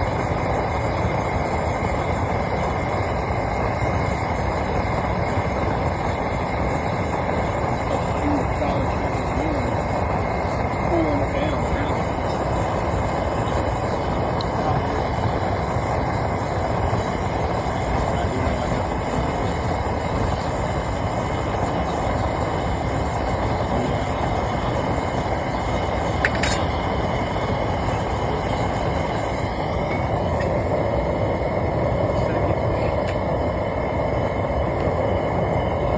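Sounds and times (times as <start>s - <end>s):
gas burner flame rushing: 0.0s - 35.9s.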